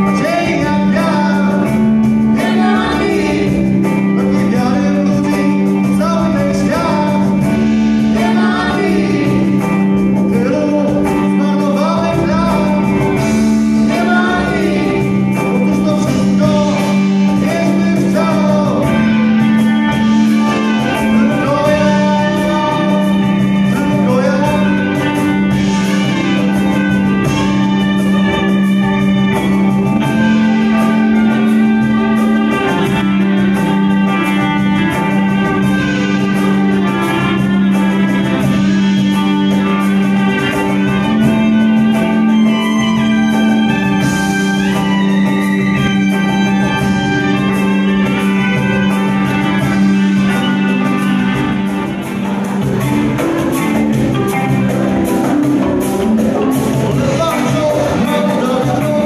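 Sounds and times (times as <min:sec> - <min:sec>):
guitar: 0:00.0 - 0:59.0
violin: 0:00.0 - 0:59.0.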